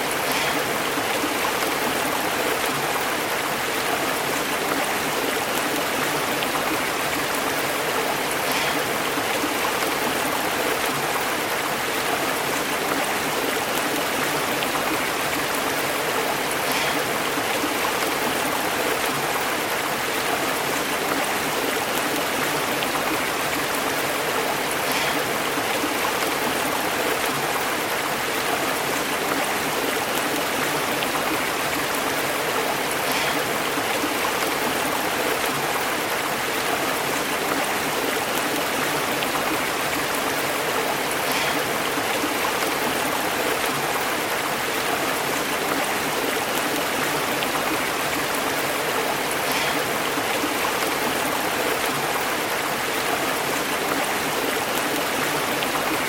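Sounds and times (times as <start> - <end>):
small water splashes: 0.0 - 56.0
stream flowing over rocks: 0.0 - 56.0.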